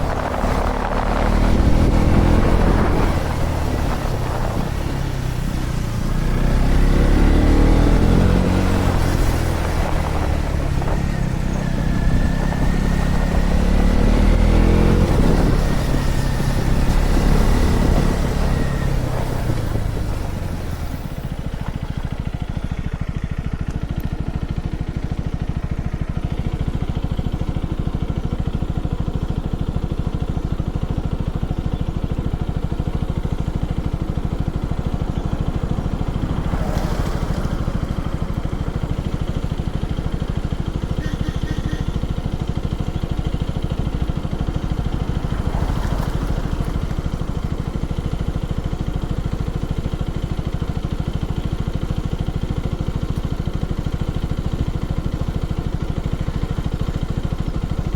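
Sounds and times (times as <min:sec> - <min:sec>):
motorcycle engine idling: 0:00.0 - 0:06.7, 0:17.7 - 0:57.9.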